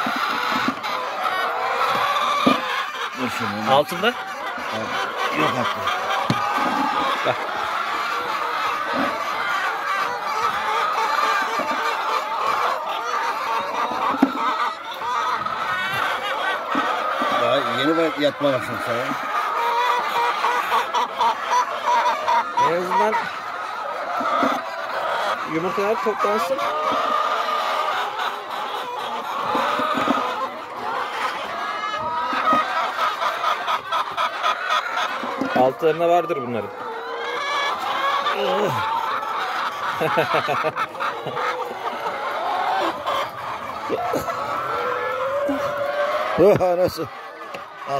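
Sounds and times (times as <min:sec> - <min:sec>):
hens clucking: 0:00.0 - 0:47.9.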